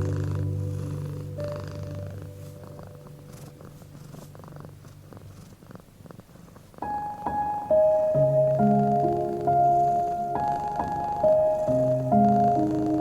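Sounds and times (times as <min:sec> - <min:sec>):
cat purring: 0:00.0 - 0:13.0
soft piano music: 0:00.0 - 0:13.0.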